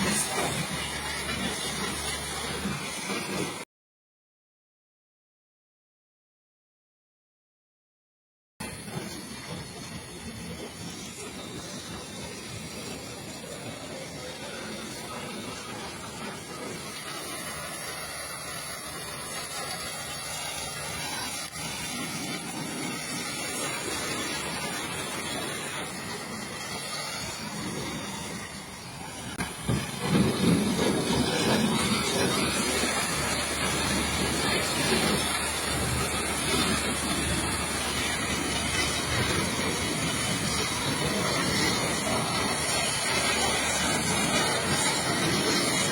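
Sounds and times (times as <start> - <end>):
pressure washer water jet spraying: 0.0 - 3.6, 8.6 - 45.9.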